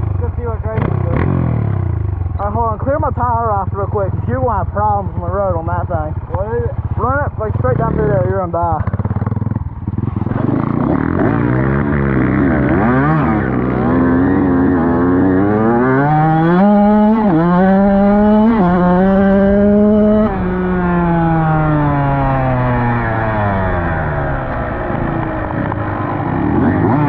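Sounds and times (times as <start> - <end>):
dirt bike engine accelerating: 0.0 - 27.0.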